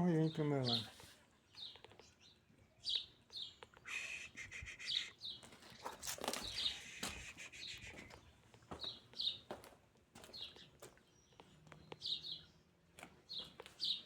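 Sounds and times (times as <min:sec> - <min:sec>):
birds chirping: 0:00.0 - 0:09.5, 0:10.2 - 0:14.0.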